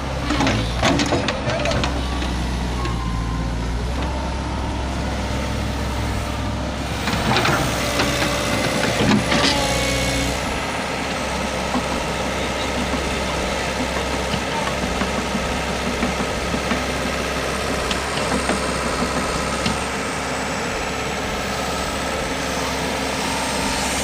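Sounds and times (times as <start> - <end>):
excavator clanking: 0.0 - 24.0
excavator diesel engine running: 0.0 - 24.0.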